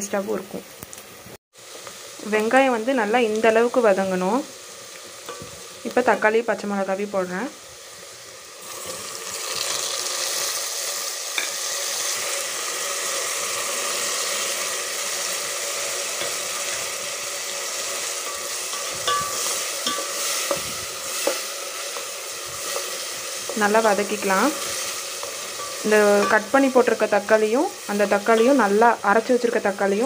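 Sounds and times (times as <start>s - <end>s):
shallots sizzling in hot oil: 0.0s - 30.0s.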